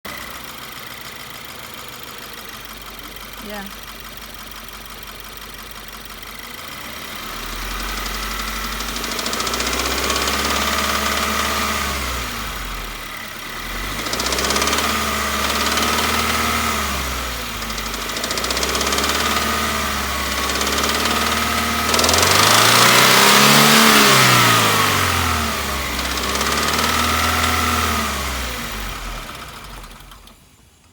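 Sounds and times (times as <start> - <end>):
car engine revving: 0.1 - 30.4
engine knock or rattle: 0.1 - 30.9.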